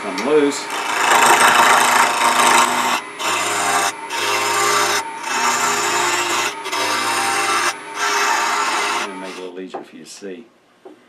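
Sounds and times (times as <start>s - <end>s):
lathe humming: 0.4s - 9.5s
gouge cutting spinning wood: 0.6s - 9.5s.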